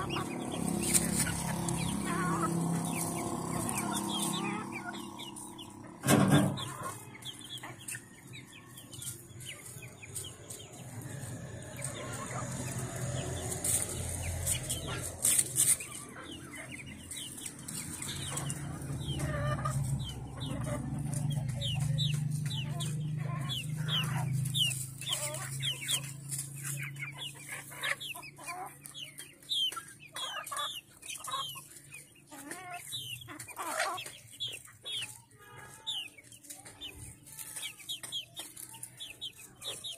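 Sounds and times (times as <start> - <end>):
hens clucking: 0.0 - 39.9.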